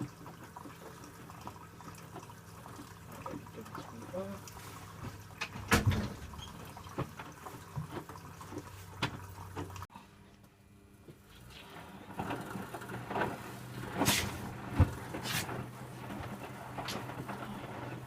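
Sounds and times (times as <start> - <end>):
water splashing into washing drum: 0.0 - 9.9, 11.2 - 18.0
washing machine low hum: 0.0 - 18.0.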